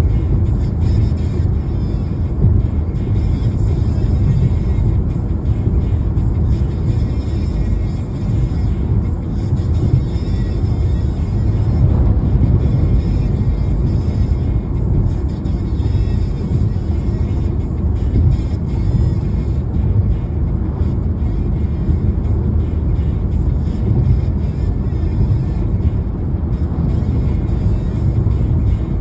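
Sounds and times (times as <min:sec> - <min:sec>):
car driving on road: 0:00.0 - 0:29.0.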